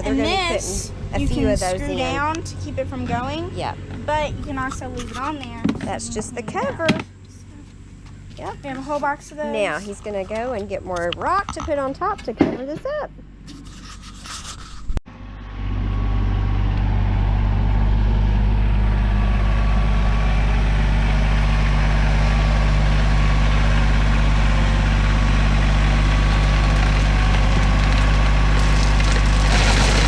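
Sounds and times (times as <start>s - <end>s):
tractor engine running: 0.0s - 14.3s, 15.1s - 30.0s.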